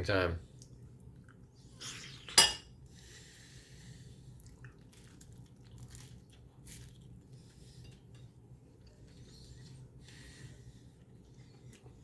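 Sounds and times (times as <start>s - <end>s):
quiet chewing with crackling: 0.5s - 1.8s, 2.9s - 12.0s.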